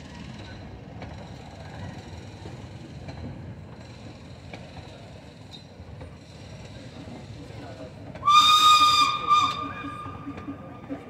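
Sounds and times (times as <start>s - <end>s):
railway carriages rumbling past: 0.0s - 11.0s.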